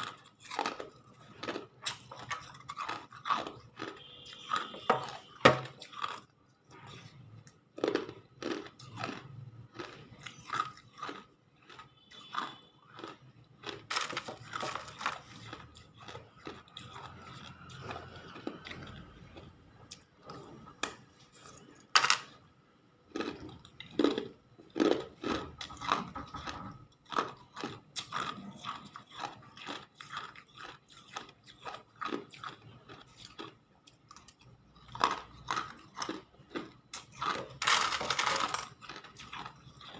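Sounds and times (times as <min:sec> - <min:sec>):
ice being chewed crunching: 0:00.0 - 0:22.4, 0:23.0 - 0:39.9.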